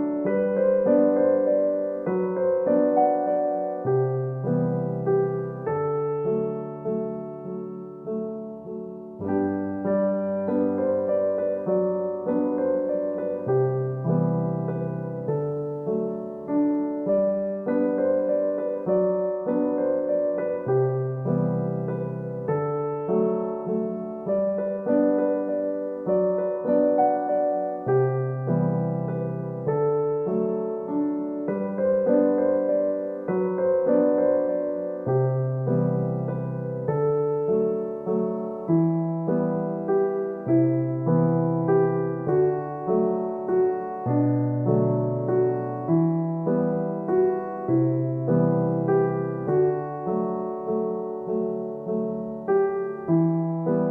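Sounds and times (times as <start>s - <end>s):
gentle piano music: 0.0s - 53.9s.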